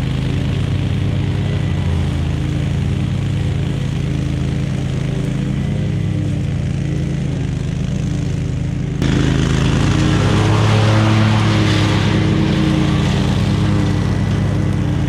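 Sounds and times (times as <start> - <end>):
lawn equipment engine running: 0.0 - 15.0.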